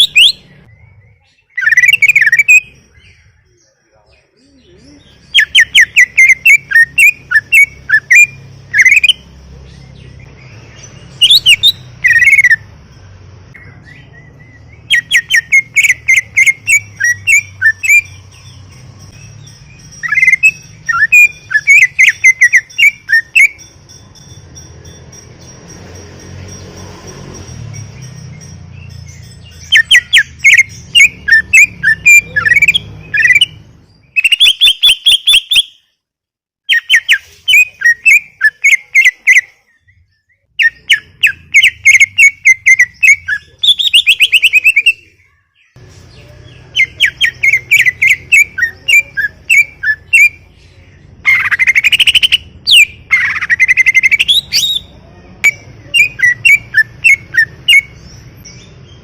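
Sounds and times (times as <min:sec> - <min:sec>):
bird chirping and trilling: 0:00.0 - 0:36.0, 0:36.6 - 0:59.0.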